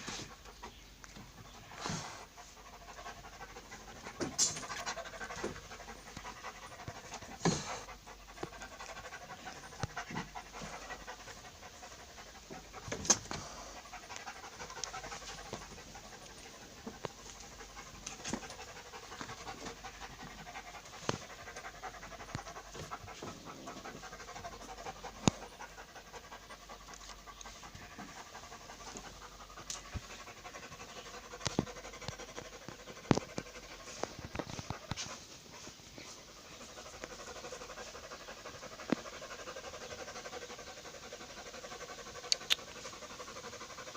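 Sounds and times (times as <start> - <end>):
pet panting: 0.0 - 43.9.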